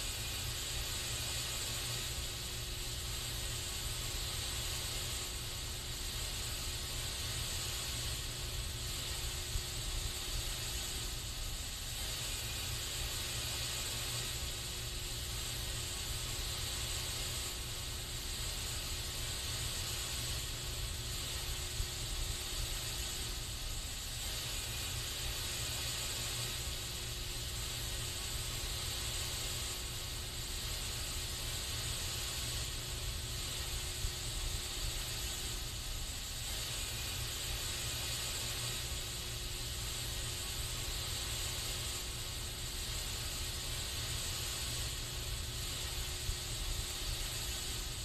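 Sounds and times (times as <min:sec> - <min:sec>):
aerosol spray can hissing: 0:00.0 - 0:48.0.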